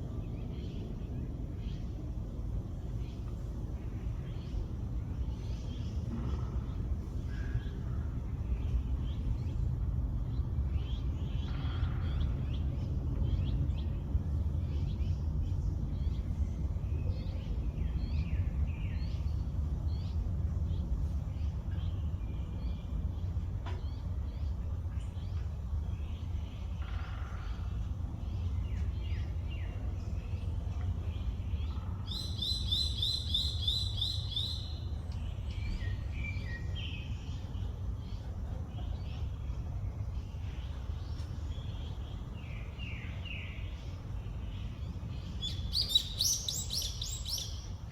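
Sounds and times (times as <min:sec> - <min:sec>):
steady low rumble: 0:00.0 - 0:47.9
birds chirping: 0:00.1 - 0:47.9.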